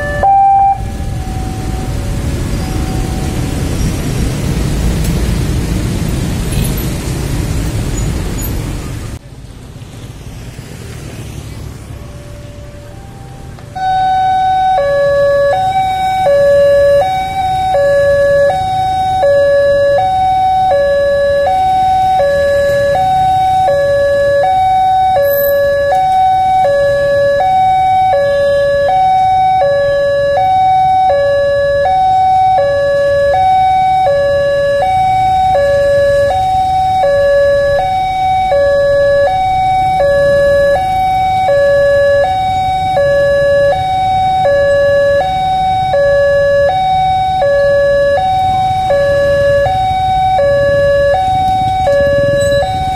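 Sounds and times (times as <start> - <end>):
two-tone level-crossing siren: 0.0 - 3.9, 12.0 - 52.9.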